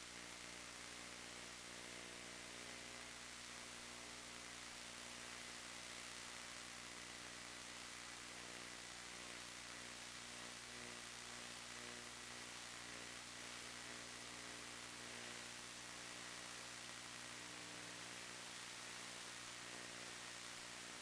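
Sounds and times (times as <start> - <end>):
faint electrical hum: 0.0 - 21.0
static hiss: 0.0 - 21.0.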